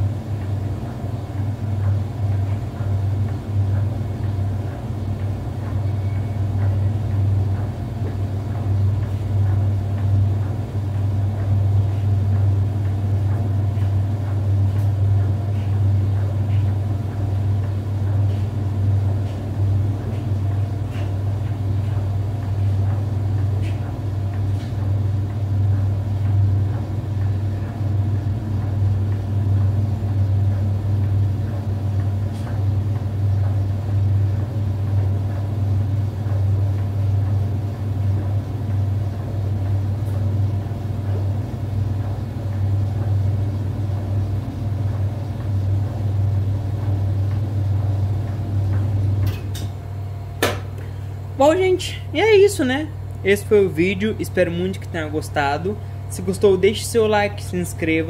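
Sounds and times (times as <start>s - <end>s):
washing machine hum and rumble: 0.0s - 58.0s.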